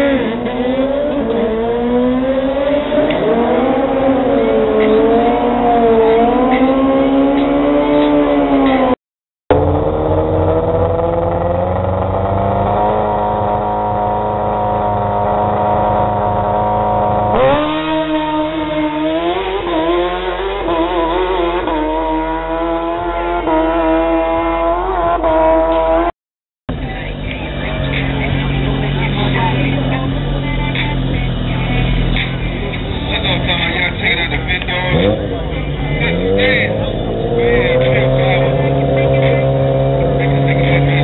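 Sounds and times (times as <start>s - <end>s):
motorcycle engines idling and revving: 0.0s - 26.1s, 26.7s - 41.0s.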